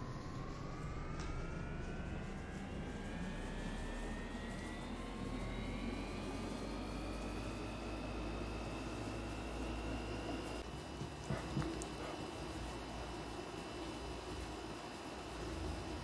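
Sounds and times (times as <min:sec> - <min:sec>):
engine drone with rising whine: 0:00.0 - 0:16.0.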